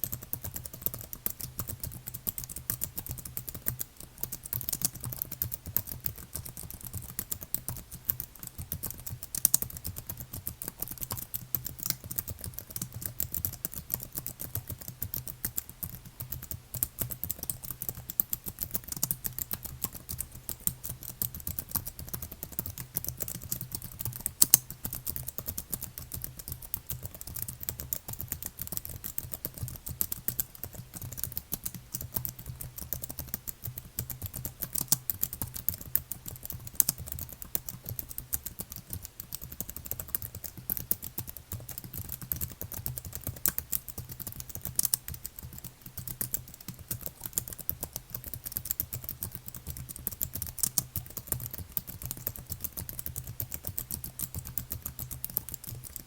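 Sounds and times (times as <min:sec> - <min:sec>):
typing on a computer keyboard: 0:00.0 - 0:56.0.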